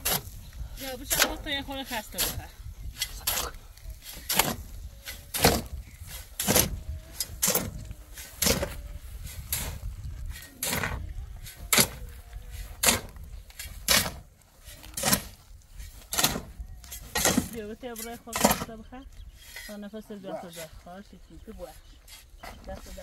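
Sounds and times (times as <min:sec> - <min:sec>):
shovel scraping crushed stone: 0:00.0 - 0:18.8.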